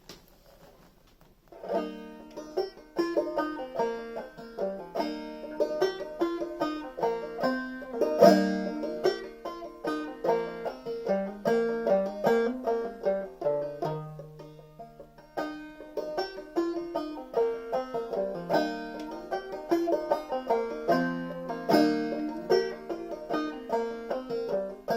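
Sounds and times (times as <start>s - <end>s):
banjo playing old-time tune: 1.5s - 24.9s.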